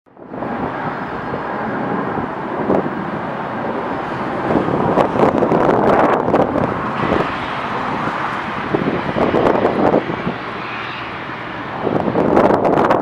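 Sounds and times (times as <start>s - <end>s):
wind buffeting microphone: 0.1s - 13.0s
jet engines rushing: 0.2s - 13.0s.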